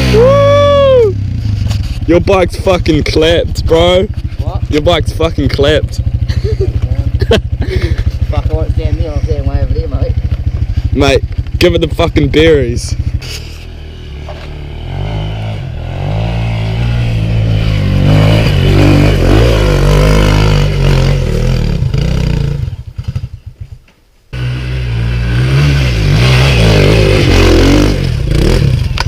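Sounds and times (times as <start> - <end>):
dirt bike engine revving: 0.0 - 23.6, 24.3 - 29.0.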